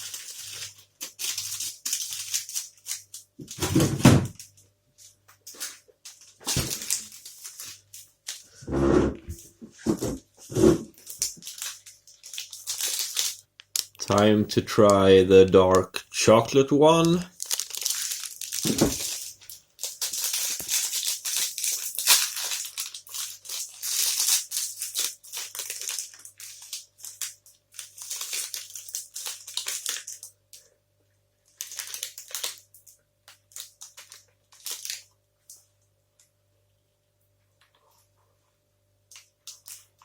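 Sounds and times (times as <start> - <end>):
plastic wrapper crinkling: 0.0 - 3.6, 4.3 - 8.6, 10.9 - 30.7, 31.4 - 35.8, 39.1 - 40.0.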